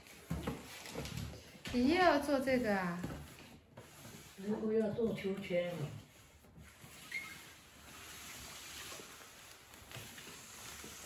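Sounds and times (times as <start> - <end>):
cardboard box scraping on tiles: 0.0 - 11.0.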